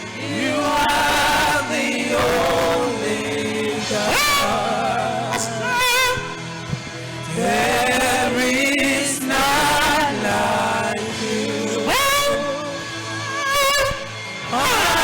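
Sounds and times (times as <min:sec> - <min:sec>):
musical backing: 0:00.0 - 0:15.0
person singing with vibrato: 0:00.0 - 0:15.0.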